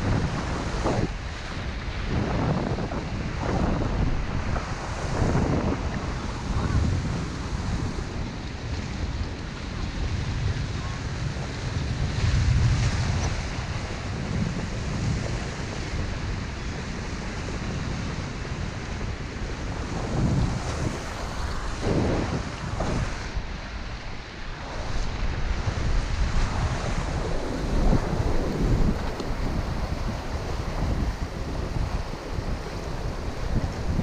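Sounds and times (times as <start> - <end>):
waves breaking on rocks: 0.0 - 34.0
wind buffeting microphone: 0.0 - 34.0.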